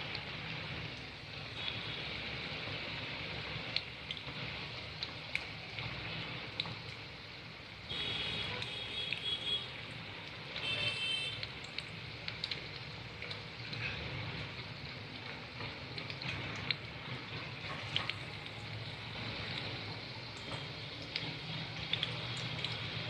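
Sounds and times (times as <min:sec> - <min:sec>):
chicken deep-frying in oil: 0:00.0 - 0:23.0.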